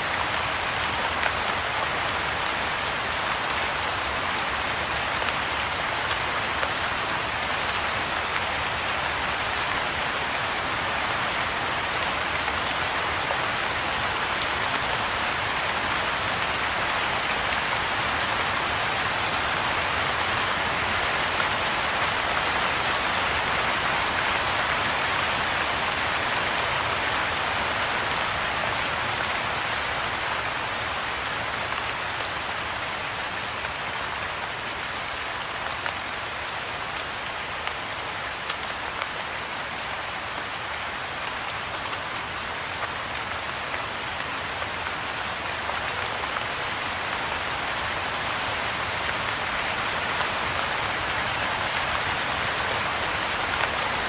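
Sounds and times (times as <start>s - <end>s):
rain falling on water: 0.0s - 54.0s.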